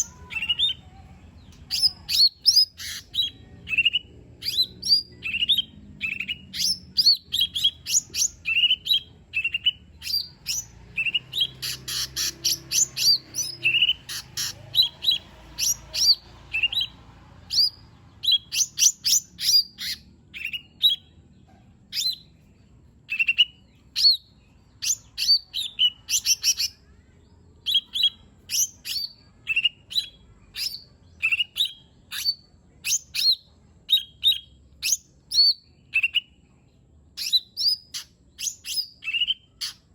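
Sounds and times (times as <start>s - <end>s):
bird singing whistled notes: 1.6s - 21.1s, 23.1s - 26.8s, 27.6s - 36.4s, 37.2s - 39.9s.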